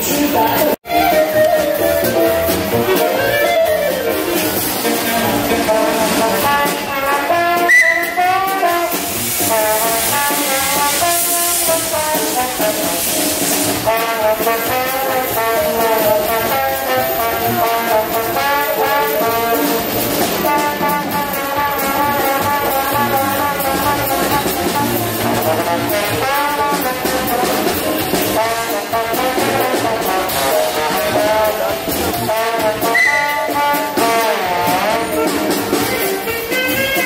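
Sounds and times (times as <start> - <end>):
brass music: 0.0 - 37.0.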